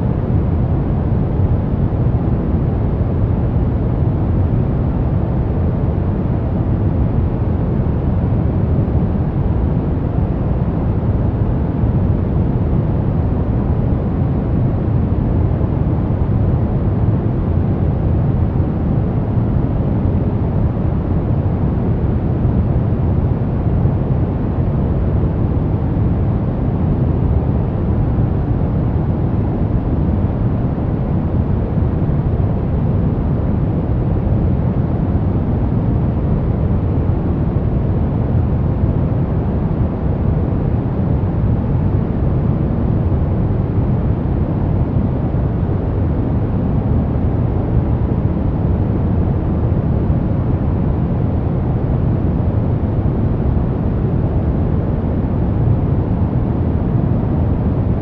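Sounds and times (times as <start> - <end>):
deep white noise: 0.0 - 58.0.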